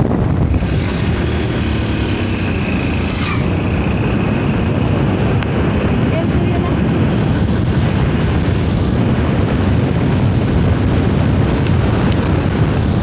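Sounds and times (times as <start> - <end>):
motorcycle engine: 0.0 - 13.0
road noise: 0.0 - 13.0
wind rushing over microphone: 0.0 - 13.0.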